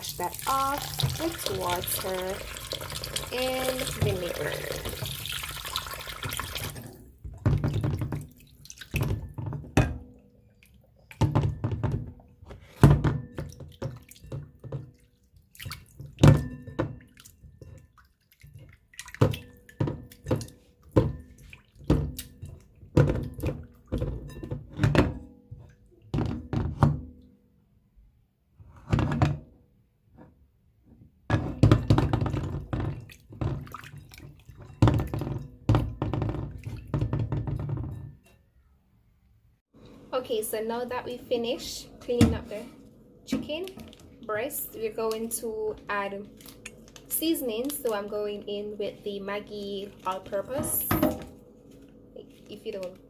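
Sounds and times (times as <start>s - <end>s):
water splashing and sloshing: 0.0s - 27.3s, 31.3s - 38.0s, 39.7s - 53.0s.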